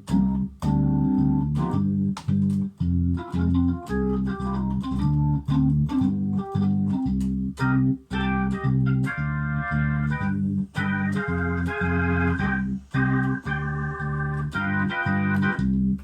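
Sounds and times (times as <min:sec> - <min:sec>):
organ chords through rotating speaker: 0:00.0 - 0:16.0
organ melody line: 0:00.0 - 0:16.0.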